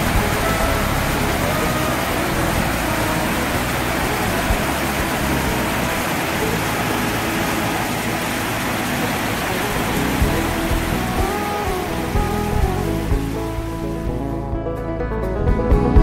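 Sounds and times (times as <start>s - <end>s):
whitewater rushing over boulders: 0.0s - 14.3s.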